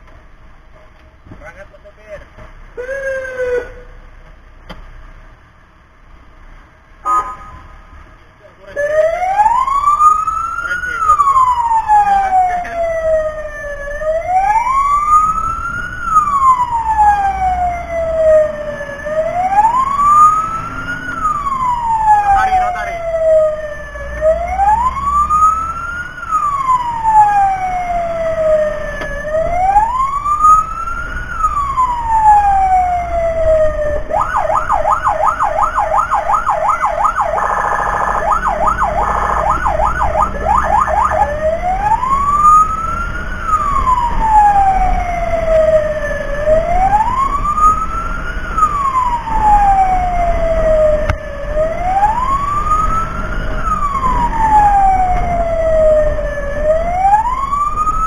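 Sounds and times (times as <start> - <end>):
fire truck siren wailing and yelping: 2.8 - 4.0, 7.0 - 7.8, 8.6 - 58.0.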